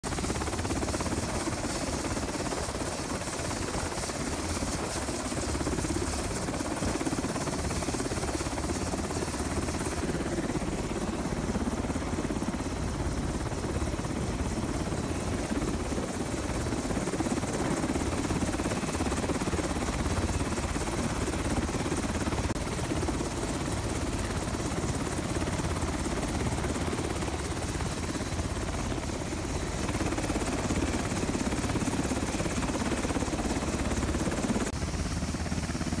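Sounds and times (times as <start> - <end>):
helicopter rotor and engine: 0.0 - 36.0.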